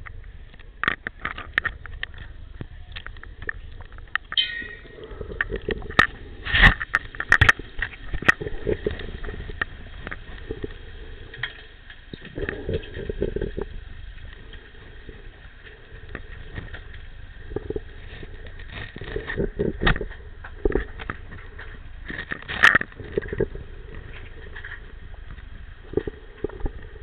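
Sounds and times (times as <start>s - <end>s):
sharp underwater clicks and knocks: 0.0s - 27.0s
underwater low rumble: 0.0s - 27.0s.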